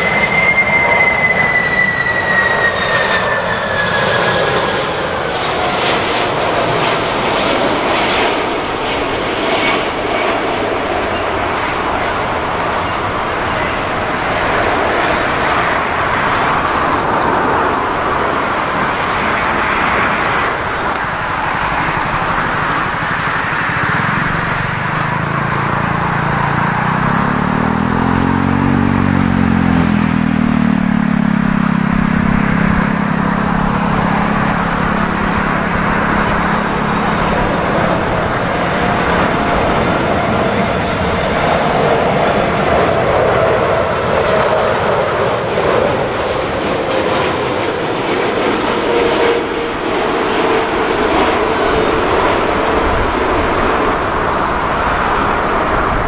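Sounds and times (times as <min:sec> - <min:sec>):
approaching aircraft engine drone: 0:00.0 - 0:56.0
jet engine roar: 0:00.0 - 0:56.0.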